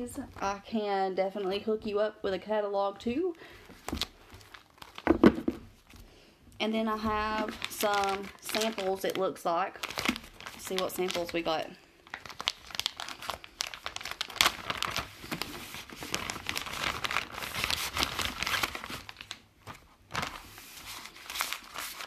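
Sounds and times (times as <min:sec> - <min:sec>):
plastic bag crinkling: 0:03.4 - 0:06.0, 0:06.8 - 0:22.0.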